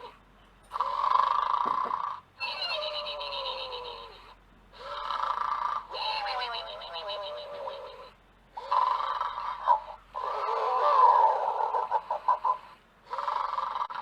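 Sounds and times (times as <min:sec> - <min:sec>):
electronic toy snoring: 0:00.7 - 0:14.0.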